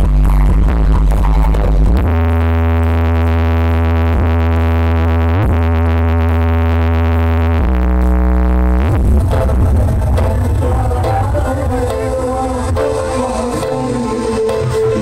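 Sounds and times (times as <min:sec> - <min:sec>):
deep synthesized bass tone: 0:00.0 - 0:15.0.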